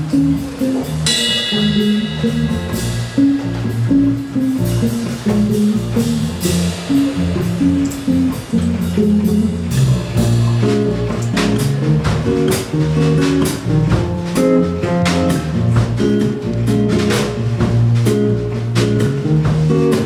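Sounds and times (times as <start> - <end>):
bass guitar line: 0.0 - 20.0
drum kit beat: 0.0 - 20.0.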